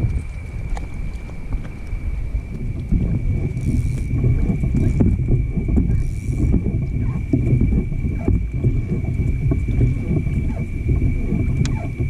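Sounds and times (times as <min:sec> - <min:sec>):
dense low rumble: 0:00.0 - 0:12.0
thin high whine: 0:00.0 - 0:12.0
water slapping against a hull: 0:00.0 - 0:12.0.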